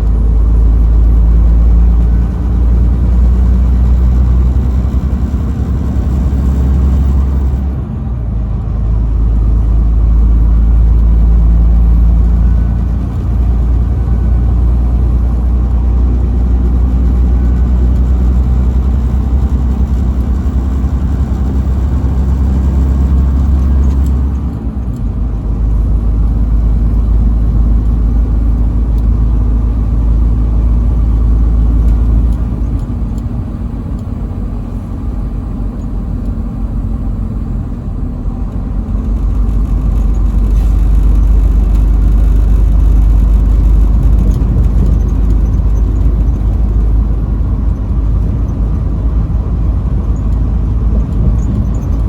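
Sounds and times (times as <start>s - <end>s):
truck engine and road noise: 0.0s - 52.0s.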